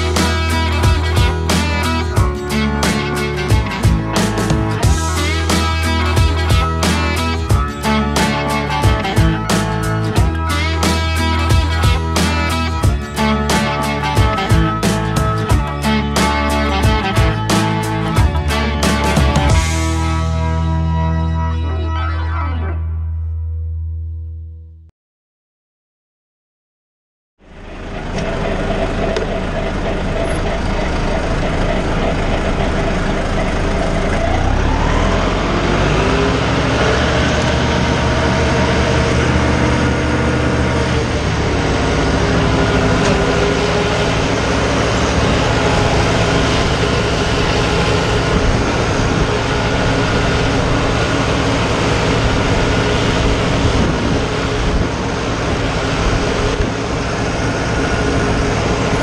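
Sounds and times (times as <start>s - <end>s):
tractor diesel engine under load: 0.0s - 22.4s, 27.4s - 59.0s.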